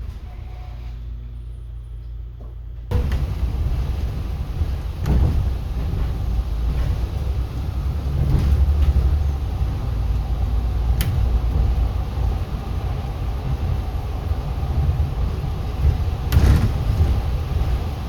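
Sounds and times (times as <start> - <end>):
bus rumbling on road: 0.0 - 18.0.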